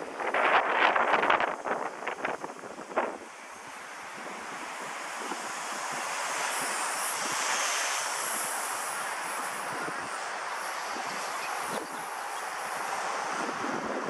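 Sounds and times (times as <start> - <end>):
wind buffeting microphone: 0.0 - 3.4, 4.0 - 14.0
toy helicopter motor whine: 0.2 - 14.0.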